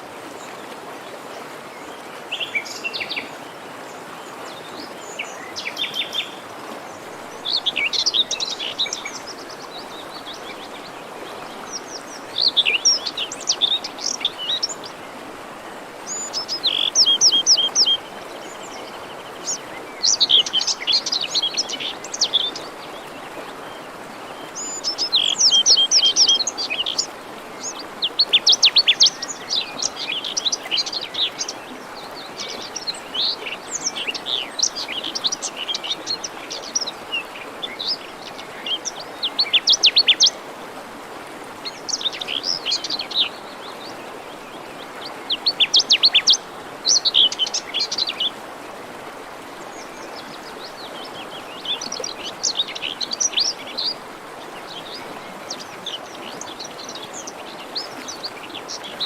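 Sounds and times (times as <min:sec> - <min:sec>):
forest stream rushing: 0:00.0 - 0:59.0
songbirds singing: 0:01.8 - 0:40.5, 0:41.6 - 0:48.4, 0:49.5 - 0:59.0.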